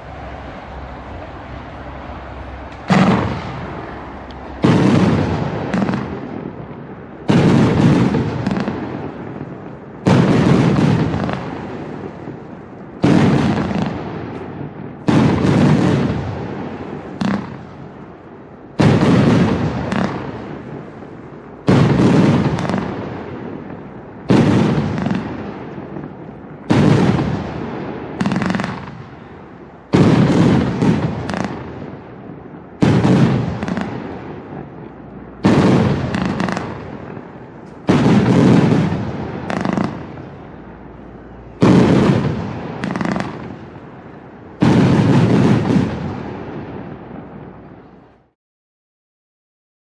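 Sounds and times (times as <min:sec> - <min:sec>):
smaller fireworks bangs: 0:00.0 - 0:48.4.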